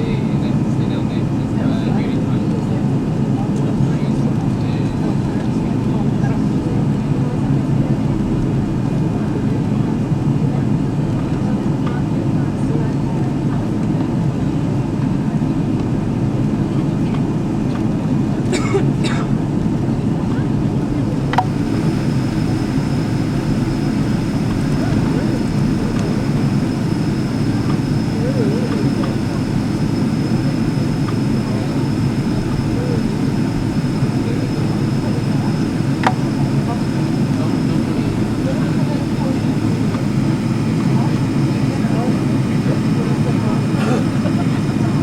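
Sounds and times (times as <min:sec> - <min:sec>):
airliner cabin engine rumble: 0:00.0 - 0:45.0.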